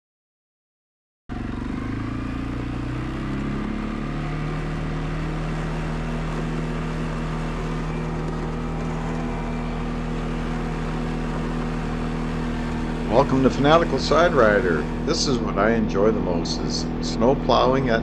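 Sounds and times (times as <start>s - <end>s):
atv engine running: 1.3s - 18.0s.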